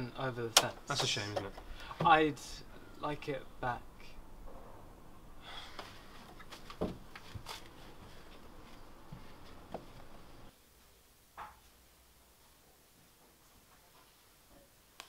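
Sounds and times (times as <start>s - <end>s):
low background hiss: 0.0s - 15.0s.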